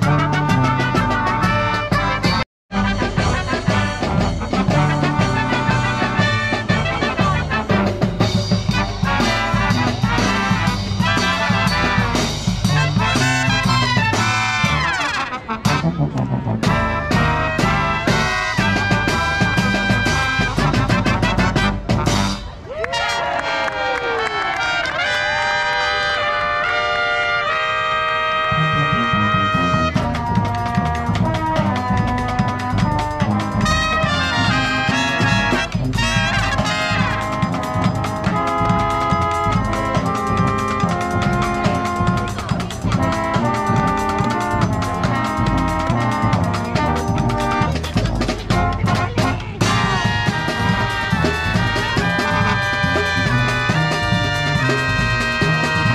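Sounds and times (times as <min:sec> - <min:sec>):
sousaphone bass line: 0:00.0 - 0:14.9, 0:15.6 - 0:22.5, 0:28.5 - 0:55.9
drum beats: 0:00.0 - 0:22.6, 0:28.6 - 0:55.9
brass marching band playing: 0:00.0 - 0:55.9
trumpets and trombones: 0:00.0 - 0:55.9.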